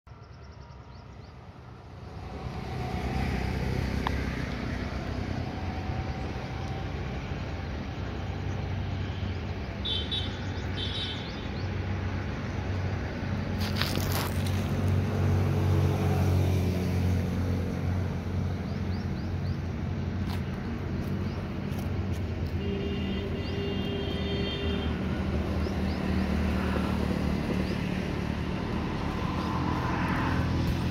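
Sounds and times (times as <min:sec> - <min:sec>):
vehicle engine humming: 0:00.2 - 0:30.9.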